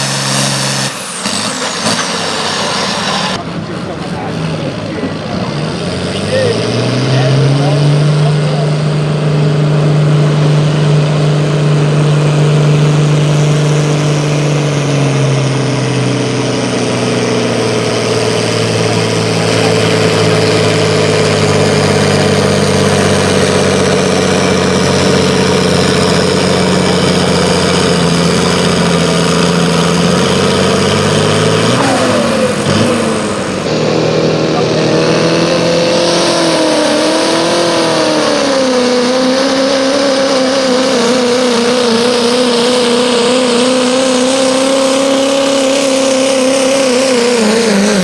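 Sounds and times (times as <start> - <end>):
pulling vehicle engine under load: 0.0 - 48.0.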